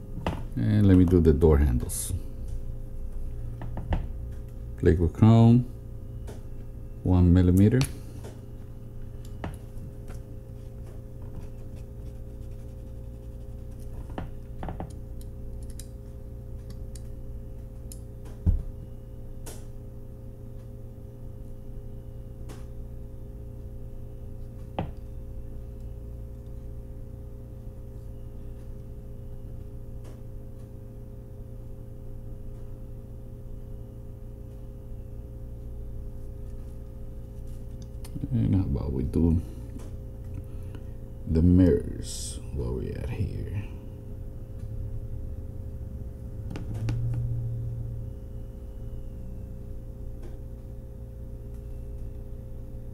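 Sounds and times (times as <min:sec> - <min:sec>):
low hum: 0:00.0 - 0:52.9.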